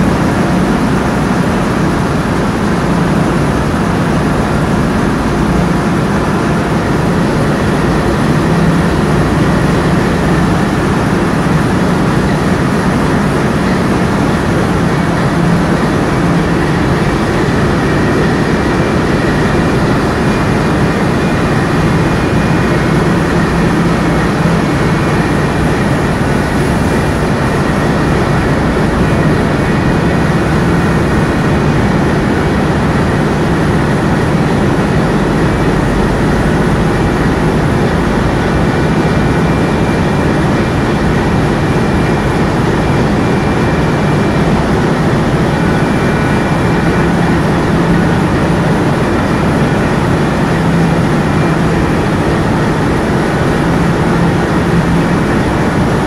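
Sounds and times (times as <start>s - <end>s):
boat engine drone: 0.0s - 56.0s
water rushing along hull: 0.0s - 56.0s.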